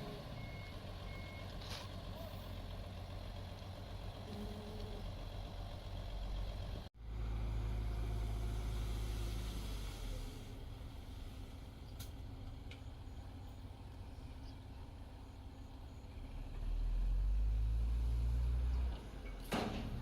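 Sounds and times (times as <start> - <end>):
heavy diesel machinery rumbling: 0.0 - 20.0.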